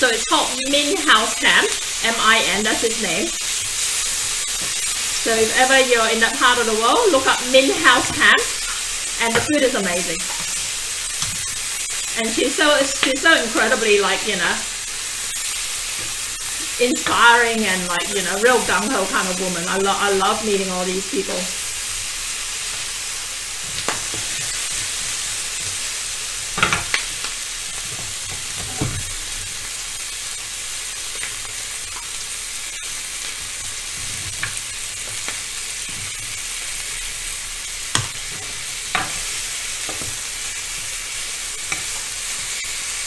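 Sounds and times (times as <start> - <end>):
chicken sizzling on a grill pan: 0.0 - 43.0.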